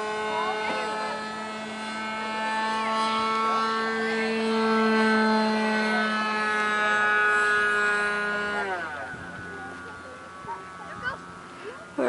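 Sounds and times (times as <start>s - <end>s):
model airplane engine running: 0.0s - 12.0s.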